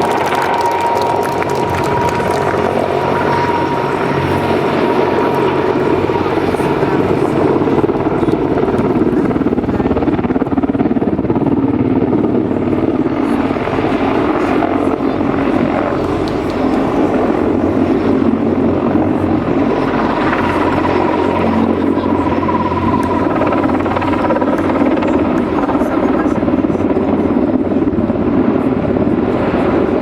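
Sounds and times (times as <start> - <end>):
helicopter rotor and turbine noise: 0.0 - 30.0.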